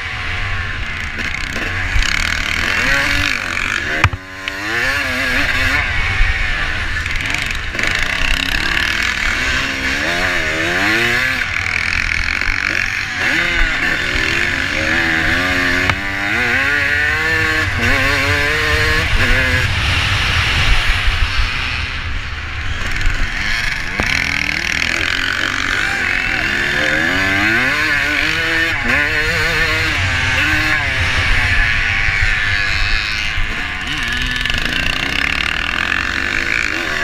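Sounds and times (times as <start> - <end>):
motocross bike engine revving: 0.0 - 37.0.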